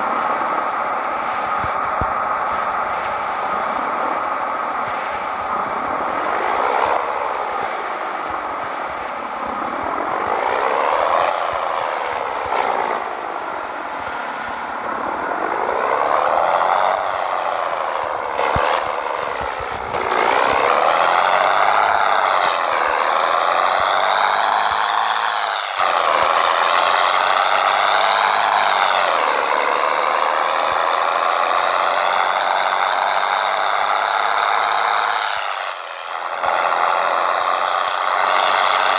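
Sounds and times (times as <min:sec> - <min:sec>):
truck engine accelerating: 0:00.0 - 0:38.9.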